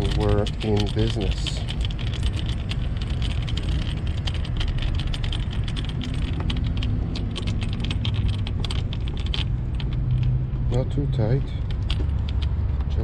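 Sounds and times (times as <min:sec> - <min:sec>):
plastic and metal parts clicking: 0:00.0 - 0:10.8, 0:11.6 - 0:13.0.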